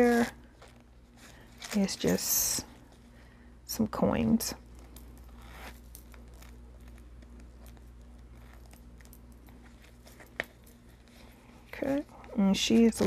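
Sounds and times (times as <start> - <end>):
wallet clicks and rustle: 0.0 - 3.1, 4.6 - 13.0
faint hum: 0.0 - 13.0.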